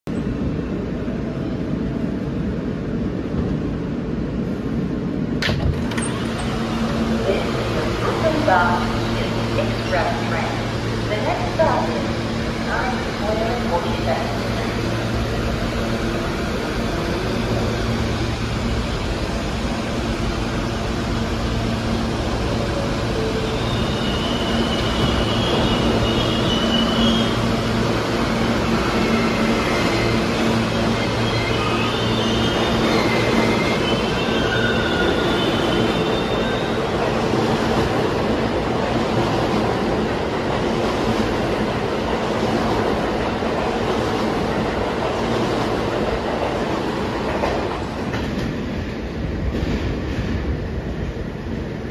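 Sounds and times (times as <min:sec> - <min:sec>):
subway train rumbling on rails: 0:00.0 - 0:51.9.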